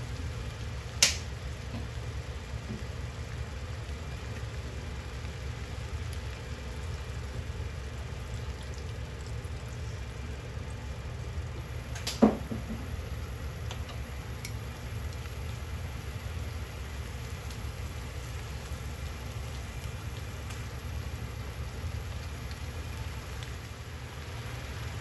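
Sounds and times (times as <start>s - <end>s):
meat sizzling in a frying pan: 0.0s - 25.0s
steady low hum: 0.0s - 25.0s.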